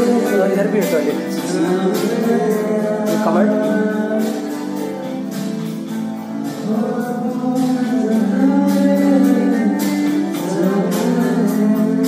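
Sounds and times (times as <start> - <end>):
man singing into microphone: 0.0 - 5.2, 6.3 - 12.0
backing track with steady beat: 0.0 - 12.0.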